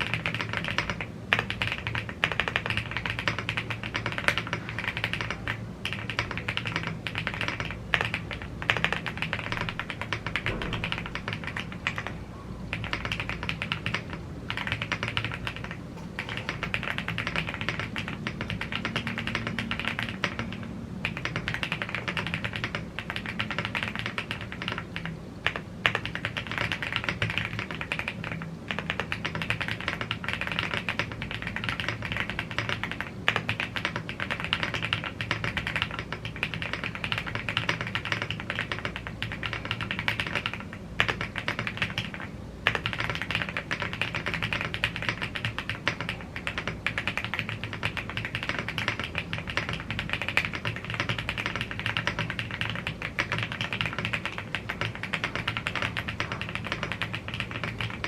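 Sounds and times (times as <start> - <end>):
typing on mechanical keyboard: 0.0 - 58.0.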